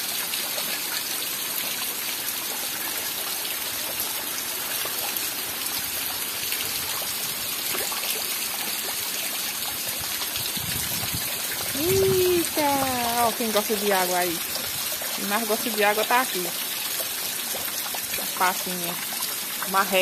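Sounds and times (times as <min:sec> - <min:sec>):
heavy rain falling: 0:00.0 - 0:20.0
water trickling: 0:00.0 - 0:20.0
water dripping: 0:00.1 - 0:20.0.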